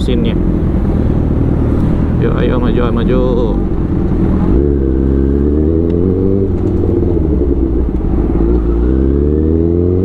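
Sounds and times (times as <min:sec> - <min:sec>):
motorcycle engine revving: 0:00.4 - 0:10.0.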